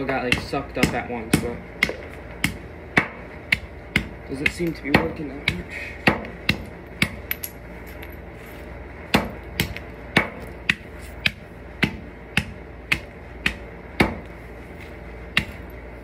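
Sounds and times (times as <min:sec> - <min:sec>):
hammer striking: 0:00.1 - 0:08.2, 0:09.1 - 0:14.4, 0:15.3 - 0:15.8.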